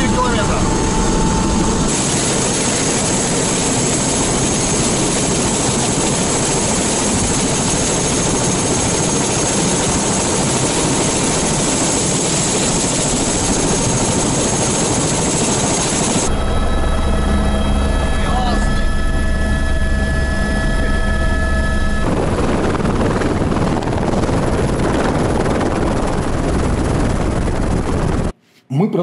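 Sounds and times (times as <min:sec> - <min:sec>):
helicopter rotor and engine noise: 0:00.0 - 0:28.3
high turbine whine: 0:00.0 - 0:28.4.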